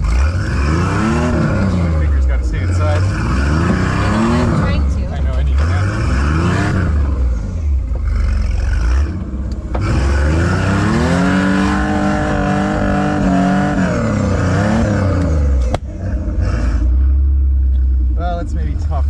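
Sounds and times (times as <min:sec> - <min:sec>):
engine rumbling and revving: 0:00.0 - 0:19.0.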